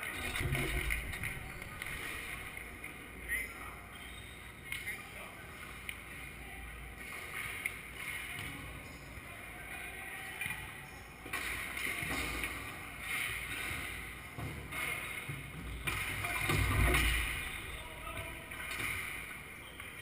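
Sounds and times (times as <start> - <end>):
echoing hall background noise: 0.0 - 20.0.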